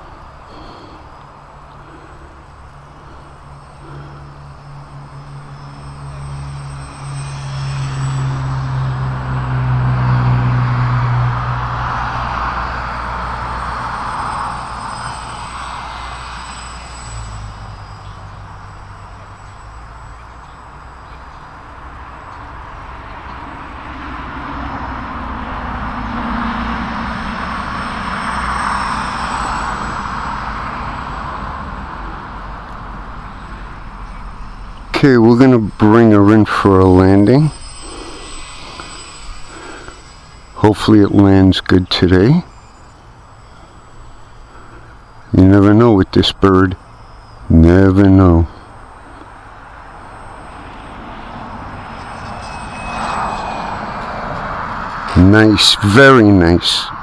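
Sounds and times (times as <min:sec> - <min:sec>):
model plane motor buzzing: 0:00.0 - 0:40.9, 0:48.5 - 0:55.2.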